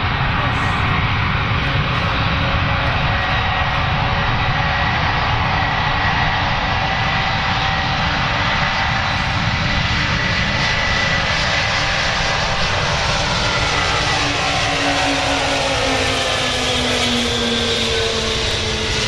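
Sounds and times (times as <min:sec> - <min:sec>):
high engine whine: 0:00.0 - 0:19.0
jet engines roaring: 0:00.0 - 0:19.0.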